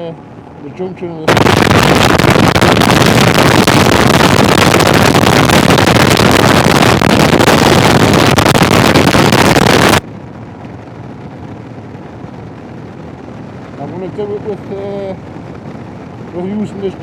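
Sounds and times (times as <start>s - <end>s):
loud wind noise on microphone: 0.0s - 17.0s.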